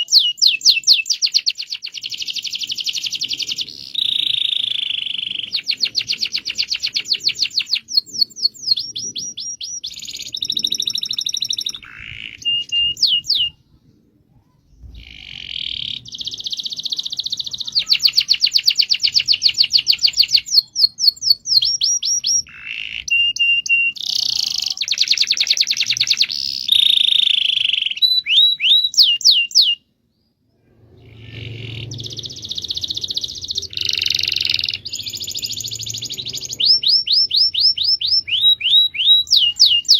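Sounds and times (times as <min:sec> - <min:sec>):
canary singing trills: 0:00.0 - 0:13.7, 0:14.6 - 0:29.9, 0:30.8 - 0:39.9.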